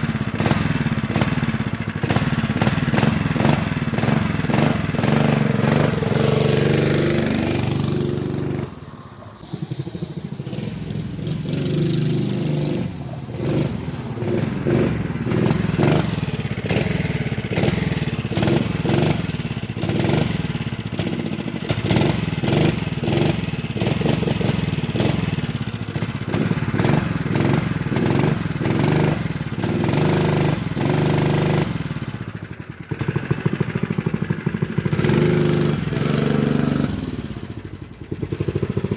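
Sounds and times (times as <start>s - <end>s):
minibike engine revving: 0.0s - 38.9s.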